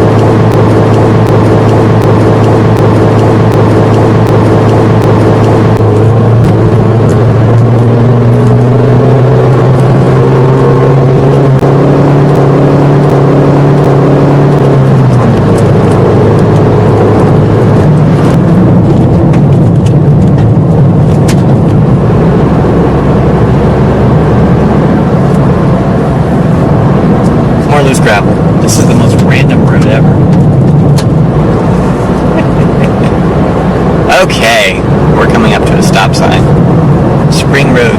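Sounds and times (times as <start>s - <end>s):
car engine drone: 0.0s - 37.9s
road and tyre noise: 0.0s - 37.9s.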